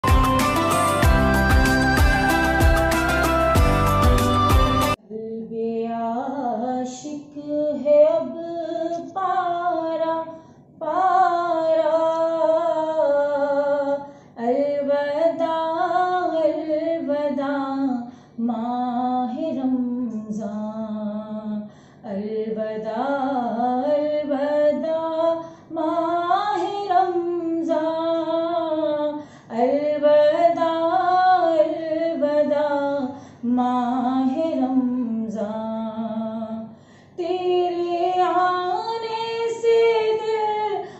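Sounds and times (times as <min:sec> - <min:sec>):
woman singing unaccompanied: 0:00.8 - 0:03.8, 0:04.9 - 0:40.9.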